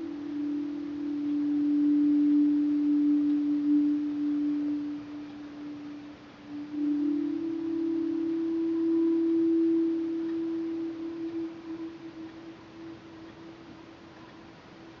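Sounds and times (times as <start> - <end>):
sustained pure tone drone: 0.0 - 15.0.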